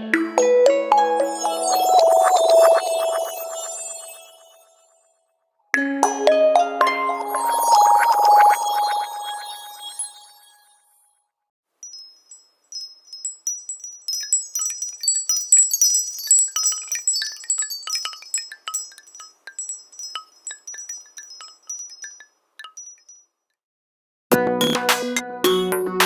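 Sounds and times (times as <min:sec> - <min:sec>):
wind-chime ringtone: 0:00.3 - 0:04.9, 0:06.0 - 0:10.8, 0:11.8 - 0:23.4.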